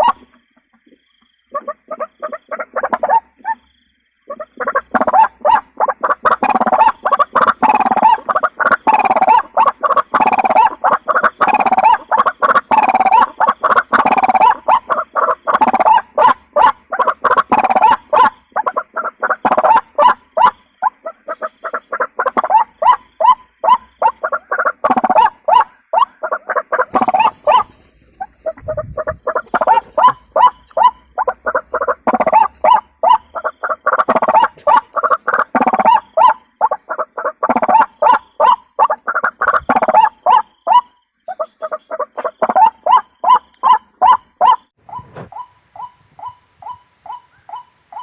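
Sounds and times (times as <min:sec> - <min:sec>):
waterhen calling harsh notes: 0:04.3 - 0:48.0.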